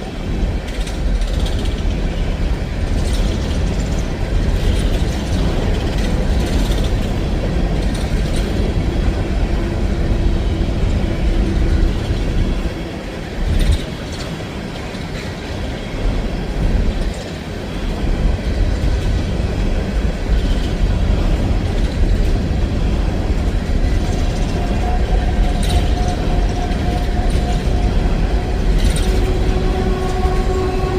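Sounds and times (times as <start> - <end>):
train wheels rumbling on rail: 0.0 - 30.9.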